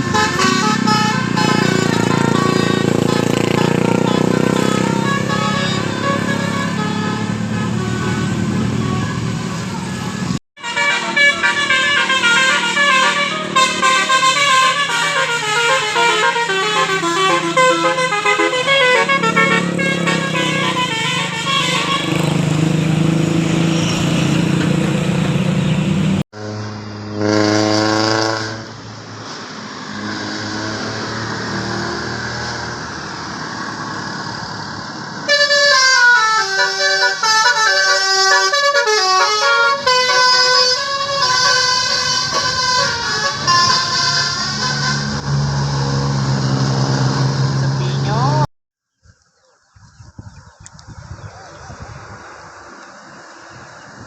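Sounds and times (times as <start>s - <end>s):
bus engine running: 0.0s - 29.7s, 32.8s - 48.5s
bus horns playing melodic tunes: 0.0s - 32.6s, 35.2s - 47.6s.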